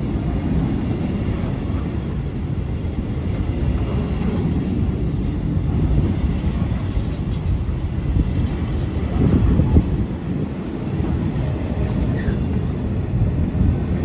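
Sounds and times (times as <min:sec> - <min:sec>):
train running at speed: 0:00.0 - 0:14.0.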